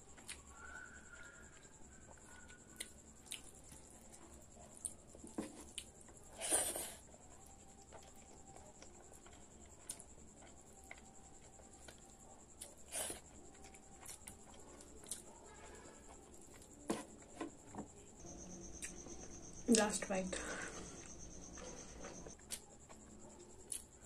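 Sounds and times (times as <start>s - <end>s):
person chewing food: 0.1s - 17.9s, 20.4s - 24.0s.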